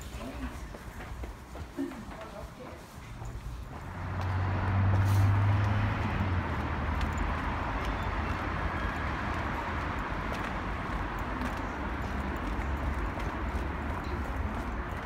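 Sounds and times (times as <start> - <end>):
road traffic rumbling: 0.0 - 15.0.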